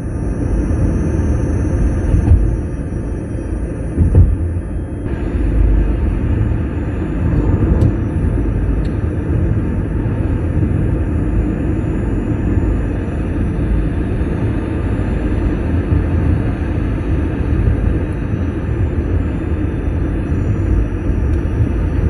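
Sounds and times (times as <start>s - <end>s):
car road and drivetrain rumble: 0.0s - 22.0s.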